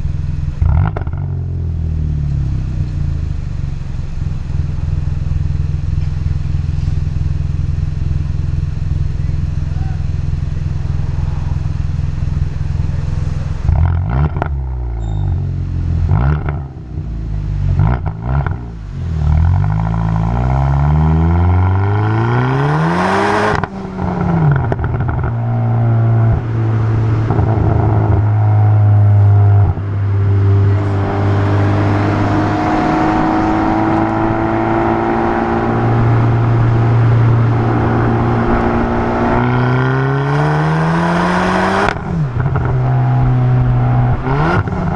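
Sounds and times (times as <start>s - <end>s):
car exhaust revving: 0.0s - 44.9s.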